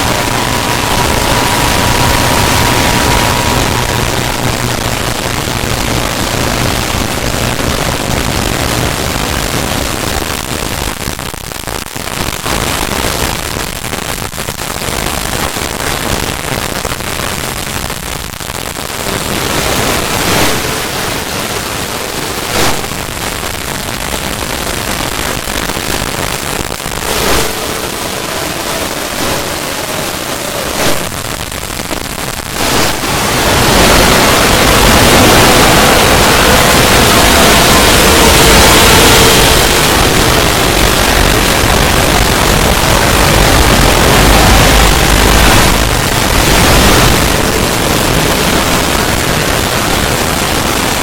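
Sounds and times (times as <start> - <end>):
steady loud hiss: 0.0 - 51.0.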